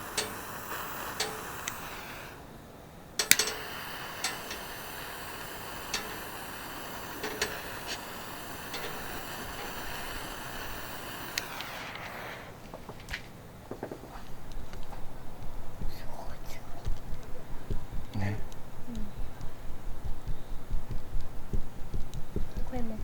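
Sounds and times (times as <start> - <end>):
charcoal fire crackling: 0.0 - 23.0.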